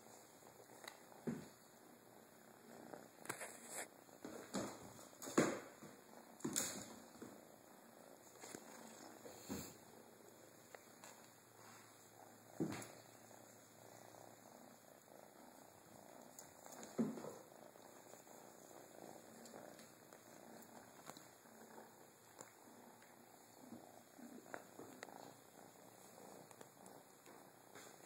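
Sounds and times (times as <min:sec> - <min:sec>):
kitten purring: 0:00.0 - 0:28.0.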